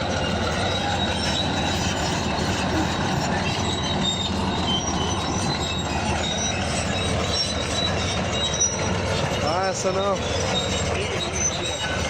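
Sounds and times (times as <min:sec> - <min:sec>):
bulldozer engine running: 0:00.0 - 0:12.0
crawler tracks squealing: 0:00.0 - 0:12.0.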